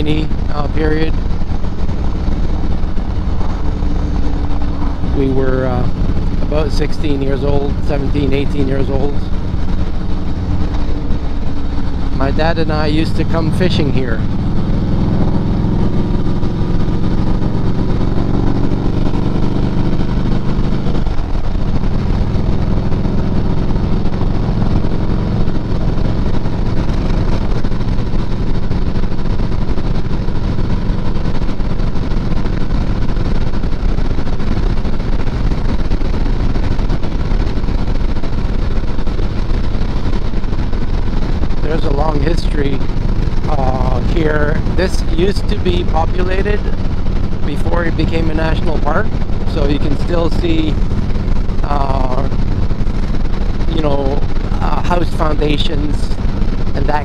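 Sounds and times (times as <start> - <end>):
continuous rushing noise: 0.0 - 57.0
motorcycle engine running: 0.0 - 57.0.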